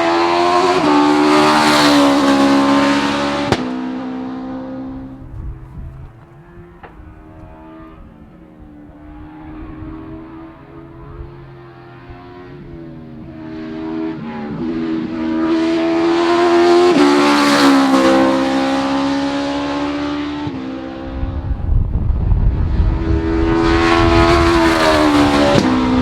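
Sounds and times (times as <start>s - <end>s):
race car accelerating: 0.0s - 26.0s.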